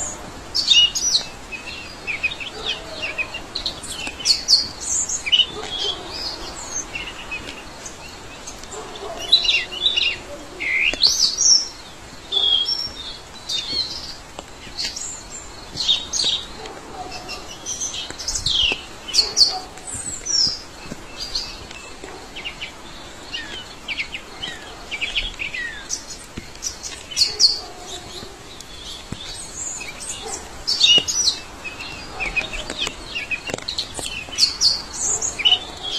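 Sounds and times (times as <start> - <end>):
faint forest hiss: 0.0 - 35.9
songbirds singing and calling: 0.0 - 35.9.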